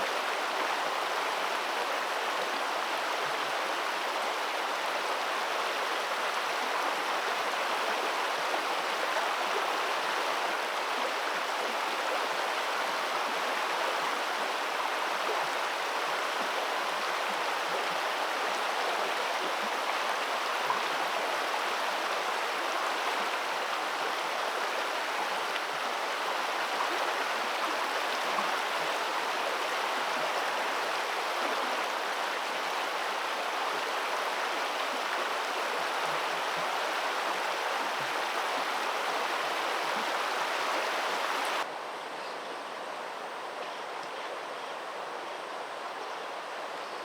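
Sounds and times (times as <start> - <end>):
flowing water rushing: 0.0 - 41.7.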